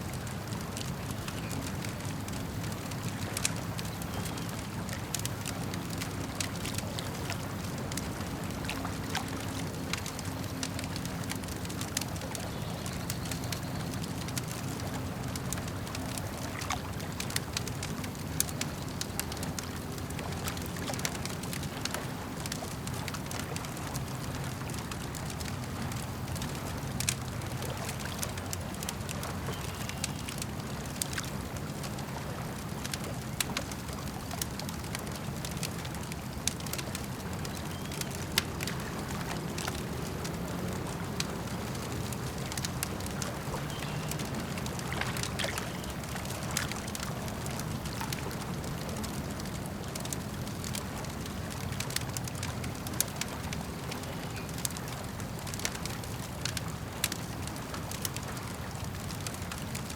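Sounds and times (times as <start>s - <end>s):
campfire crackling and popping: 0.0s - 59.9s
lake water washing: 0.0s - 59.9s.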